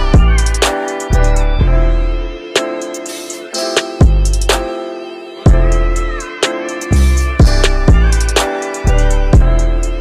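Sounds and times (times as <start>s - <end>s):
music with drum beat and bass: 0.0s - 1.7s, 2.5s - 4.8s, 5.5s - 10.0s.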